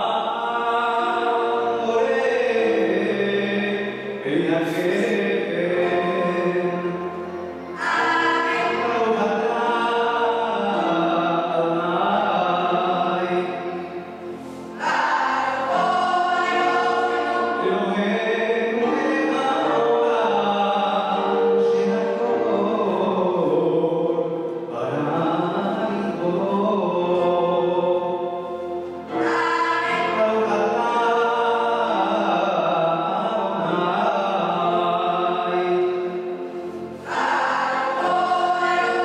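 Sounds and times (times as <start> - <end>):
male choir singing: 0.0 - 13.8, 14.7 - 28.4, 29.1 - 39.0
cello: 0.0 - 39.0
keyboard: 0.0 - 39.0.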